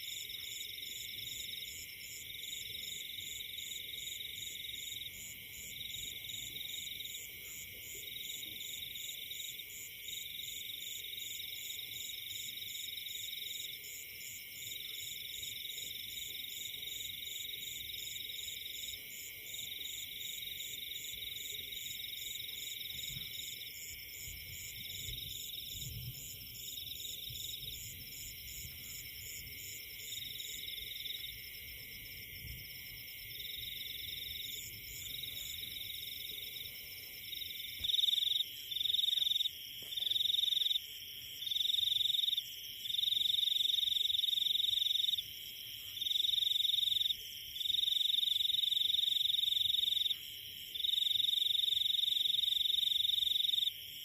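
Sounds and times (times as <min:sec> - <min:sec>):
frogs and insects trilling: 0:00.0 - 0:54.0.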